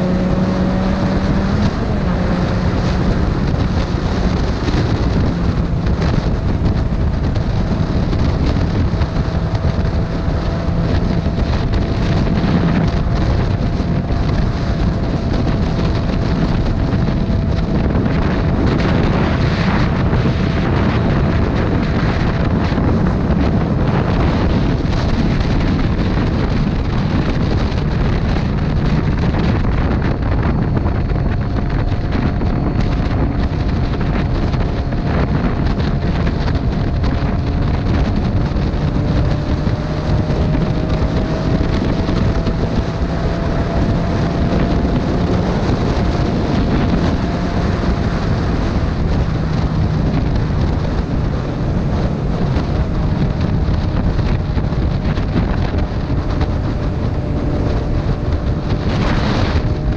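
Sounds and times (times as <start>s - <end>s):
motorcycle engine droning: 0.0s - 59.9s
wind rushing over microphone: 0.0s - 59.9s.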